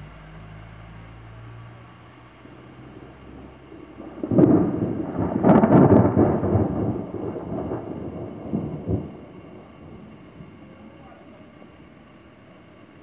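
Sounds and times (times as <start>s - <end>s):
steady rain: 0.0s - 13.0s
thunder cracking and rumbling: 2.3s - 13.0s.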